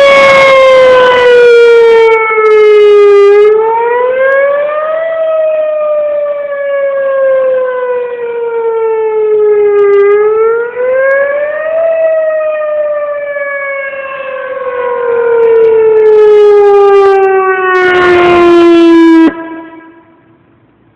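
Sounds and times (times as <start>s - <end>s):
warning siren wailing: 0.0s - 20.6s.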